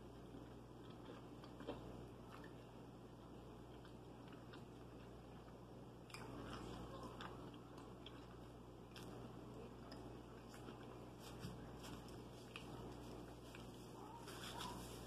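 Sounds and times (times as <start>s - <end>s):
close-up chewing: 0.0s - 15.0s.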